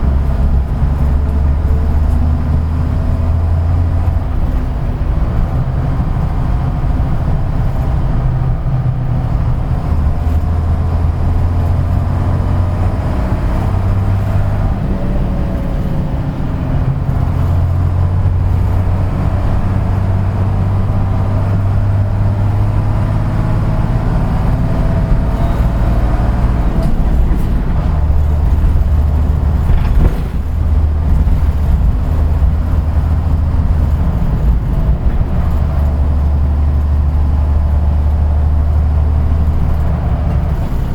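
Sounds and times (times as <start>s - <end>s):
bus diesel engine droning: 0.0s - 40.9s
road noise rumble: 0.0s - 40.9s.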